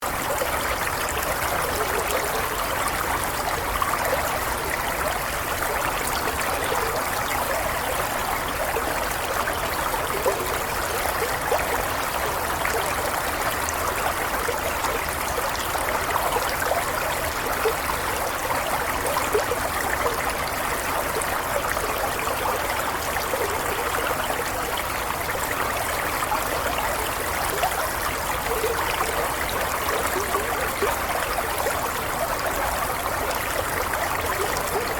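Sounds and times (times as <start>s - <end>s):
stream flowing and trickling: 0.0s - 34.9s.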